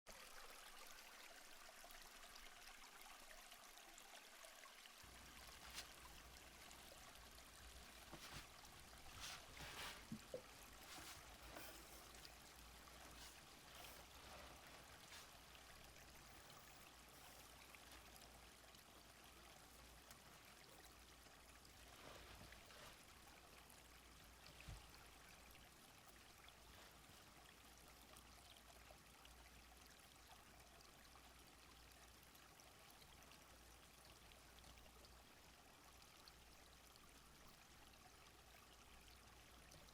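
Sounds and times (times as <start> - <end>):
small stream flowing: 0.1 - 39.9.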